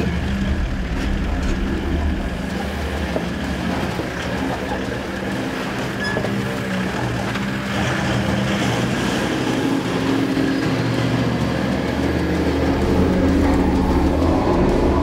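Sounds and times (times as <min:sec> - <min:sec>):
vehicle engine drone under load: 0:00.0 - 0:15.0.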